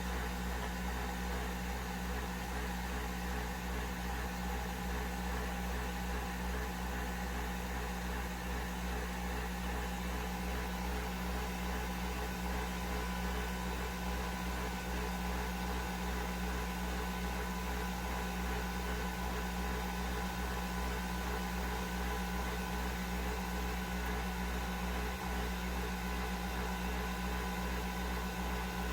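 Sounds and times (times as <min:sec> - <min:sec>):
coffee machine humming: 0:00.0 - 0:28.9.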